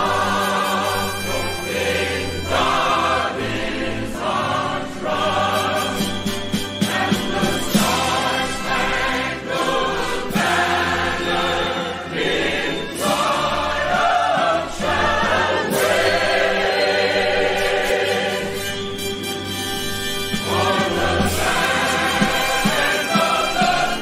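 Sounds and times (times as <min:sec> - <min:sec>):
choir singing with accompaniment: 0:00.0 - 0:24.0.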